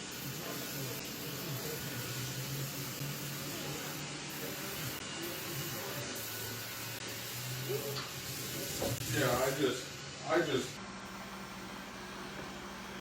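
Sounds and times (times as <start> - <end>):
steady hissing: 0.0 - 10.8.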